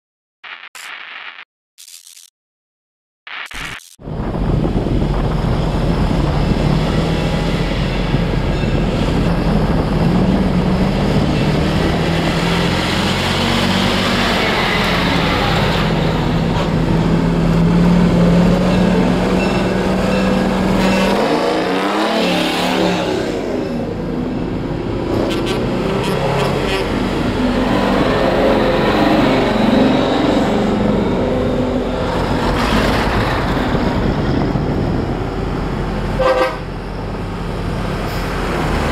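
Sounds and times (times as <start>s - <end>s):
trucks driving past: 4.1s - 38.9s.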